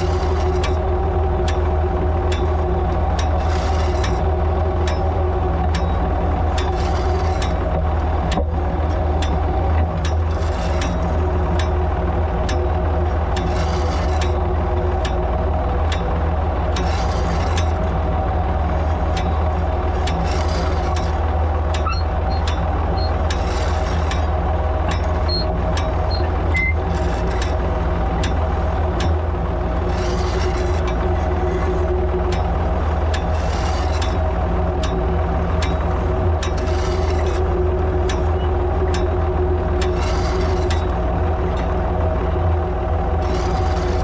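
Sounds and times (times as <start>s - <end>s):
planter mechanism clicking: 0.0s - 11.8s, 15.9s - 18.0s, 18.9s - 42.5s, 43.1s - 44.0s
tractor engine running: 0.0s - 44.0s.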